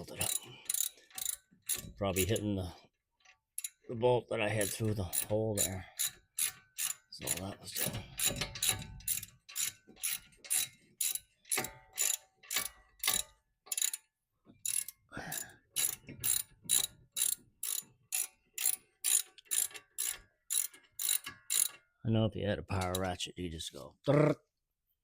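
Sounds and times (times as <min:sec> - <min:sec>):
ratchet wrench clicking: 0:00.1 - 0:02.4, 0:03.2 - 0:03.8, 0:04.6 - 0:21.9.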